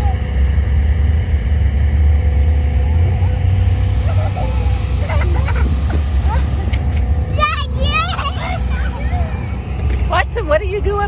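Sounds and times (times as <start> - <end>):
faint voices: 0.0 - 11.0
race car engines running: 0.0 - 11.0.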